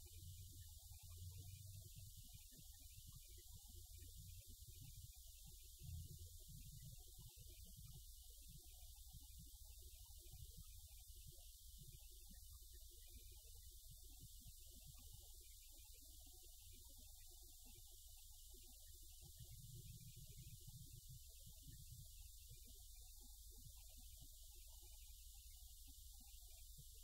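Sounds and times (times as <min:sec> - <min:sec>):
faint low hum with hiss: 0:00.0 - 0:27.0.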